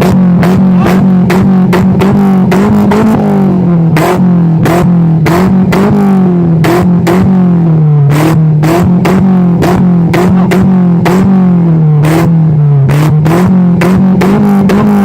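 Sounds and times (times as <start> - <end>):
car engine at high revs: 0.0 - 15.0
exhaust backfire pops: 0.0 - 15.0.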